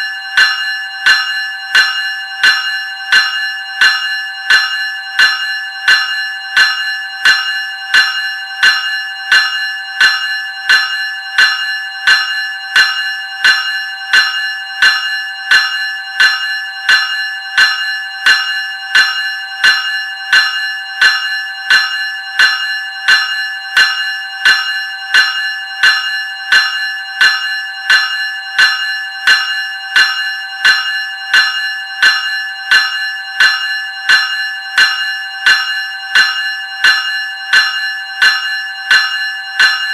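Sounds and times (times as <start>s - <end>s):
electric bell ringing: 0.0s - 39.9s.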